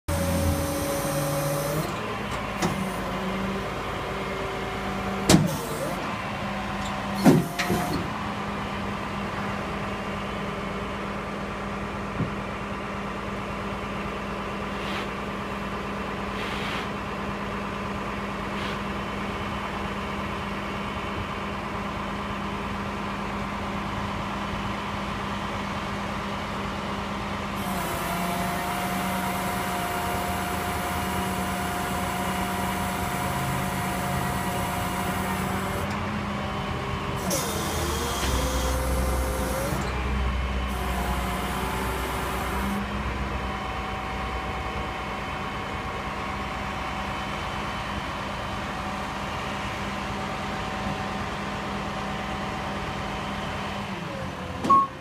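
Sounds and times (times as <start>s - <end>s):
tow truck humming: 0.0s - 16.4s, 17.0s - 55.0s.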